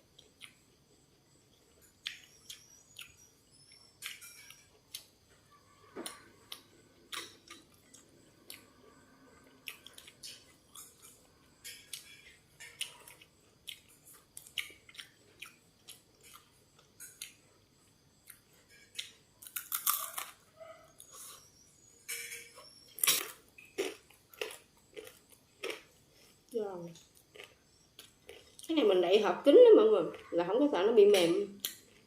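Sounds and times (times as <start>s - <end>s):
person chewing with crunching: 0.1s - 5.2s, 5.9s - 21.6s, 22.9s - 28.7s, 31.6s - 32.0s.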